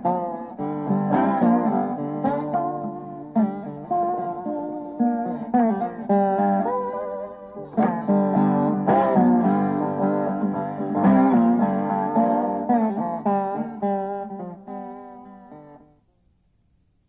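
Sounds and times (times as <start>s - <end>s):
acoustic guitar picking and strumming: 0.0s - 15.9s.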